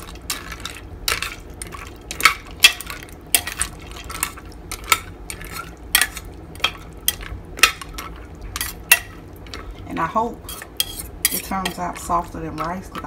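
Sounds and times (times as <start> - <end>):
soft wet stirring: 0.0 - 13.0.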